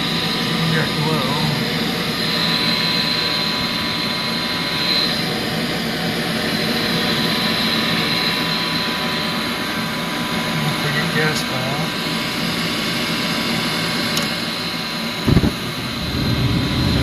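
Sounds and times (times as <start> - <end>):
furnace blower whooshing: 0.0 - 17.0
thin high whine: 0.0 - 17.0.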